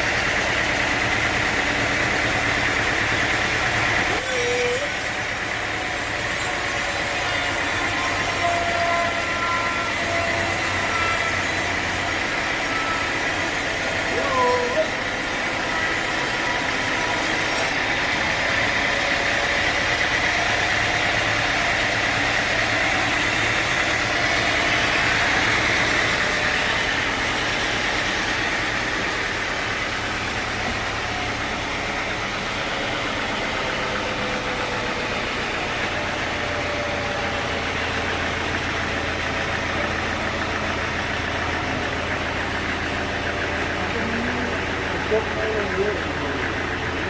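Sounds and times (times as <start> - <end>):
sawmill machinery drone with hiss: 0.0 - 47.0.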